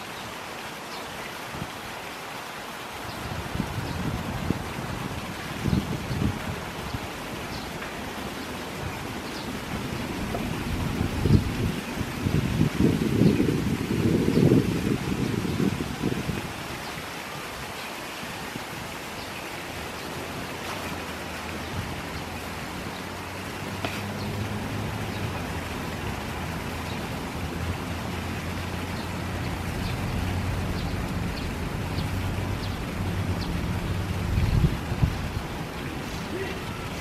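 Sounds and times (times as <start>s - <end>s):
fountain water splashing: 0.0s - 37.0s.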